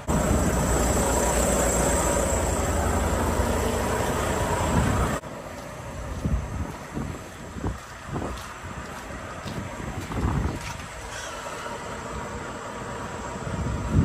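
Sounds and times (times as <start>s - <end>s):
diesel truck engine rumbling: 0.0s - 14.0s
outdoor noise: 0.0s - 14.0s.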